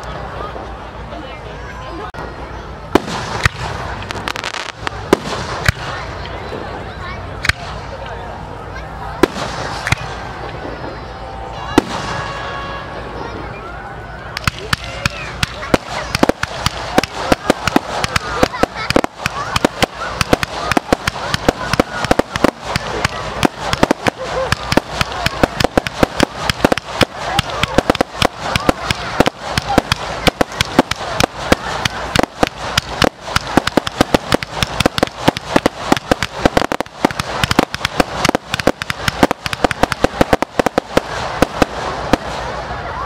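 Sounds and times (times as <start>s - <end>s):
fireworks popping and banging: 2.9s - 6.4s, 7.4s - 8.1s, 9.2s - 11.0s, 11.7s - 12.6s, 14.3s - 42.6s.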